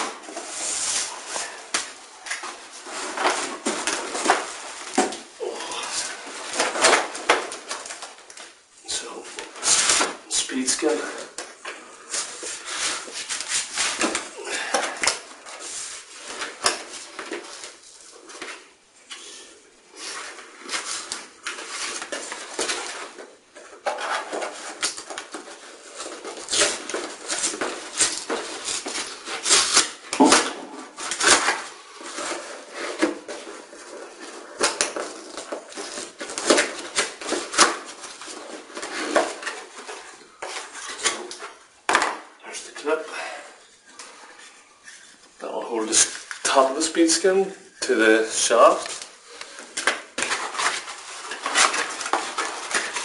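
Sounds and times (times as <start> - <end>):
cardboard ripping and rustling: 0.0 - 8.5, 9.5 - 11.4, 12.1 - 18.7, 20.0 - 42.3, 48.4 - 53.0.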